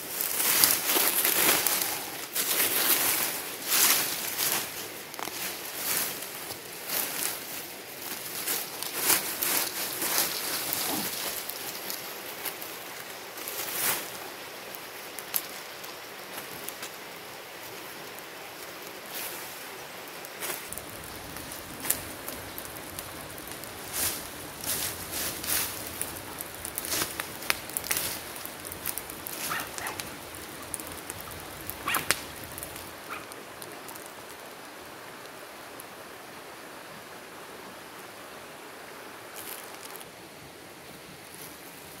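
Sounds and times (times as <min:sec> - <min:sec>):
dry leaves and twigs rustling: 0:00.0 - 0:34.8, 0:39.2 - 0:40.2
fire hissing and crackling: 0:00.0 - 0:42.0.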